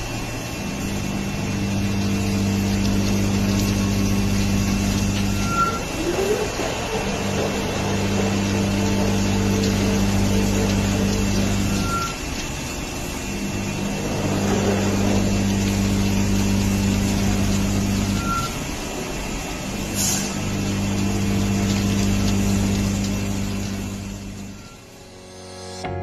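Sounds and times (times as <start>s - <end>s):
gear cutting machine humming: 0.0s - 25.2s.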